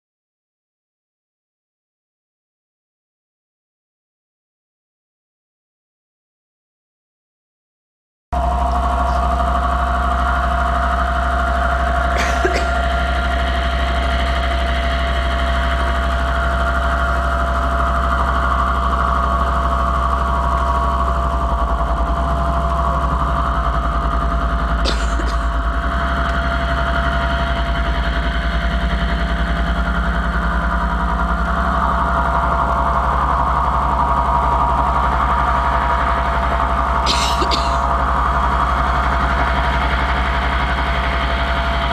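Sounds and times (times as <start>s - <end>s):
electronic drone music: 8.4s - 41.9s.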